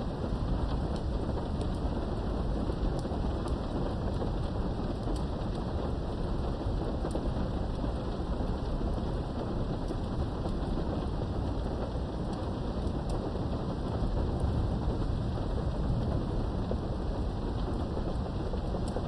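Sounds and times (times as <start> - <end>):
low rumble of thunder: 0.0 - 19.0
steady rain: 0.0 - 19.0.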